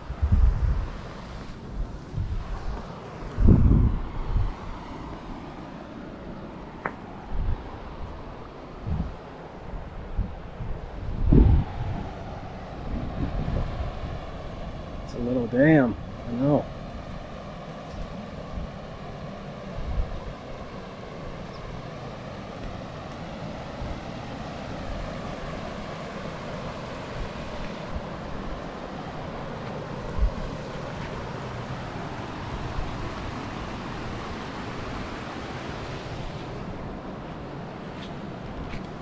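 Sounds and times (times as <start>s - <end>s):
river water rushing: 0.8s - 11.1s, 11.7s - 39.0s.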